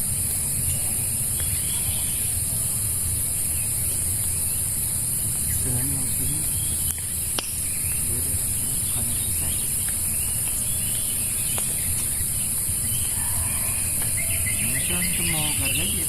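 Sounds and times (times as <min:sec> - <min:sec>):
high-pitched insect chorus: 0:00.0 - 0:16.0
low steady rumble: 0:00.0 - 0:16.0.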